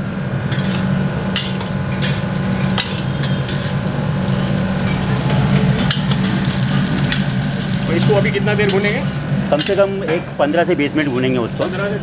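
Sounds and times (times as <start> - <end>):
steady low hum: 0.0 - 12.0
onions frying in hot oil: 0.4 - 12.0.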